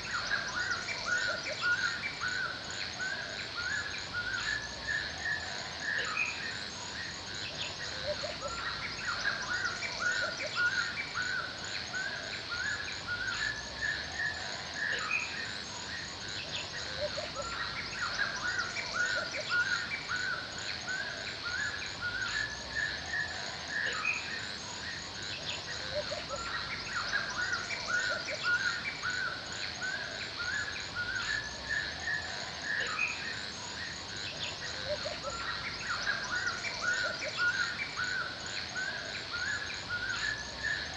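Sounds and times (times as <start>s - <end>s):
birds chirping: 0.0s - 40.9s
insect drone: 0.0s - 40.9s.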